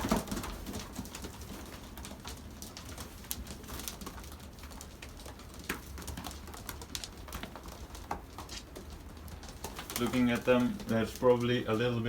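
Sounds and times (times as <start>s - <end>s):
pigeons clicking and tapping: 0.0s - 12.0s.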